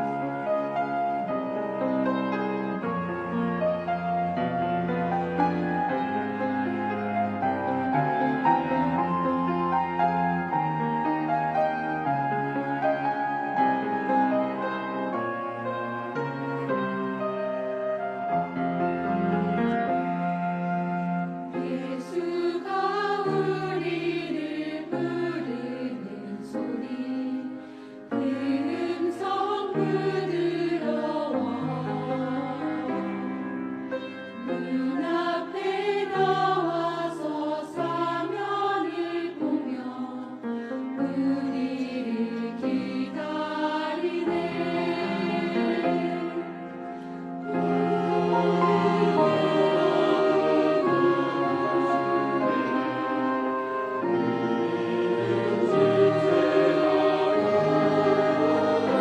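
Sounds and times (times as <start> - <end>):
instrumental accompaniment: 0.0 - 39.9, 40.5 - 59.0
choir singing a hymn: 0.0 - 59.0.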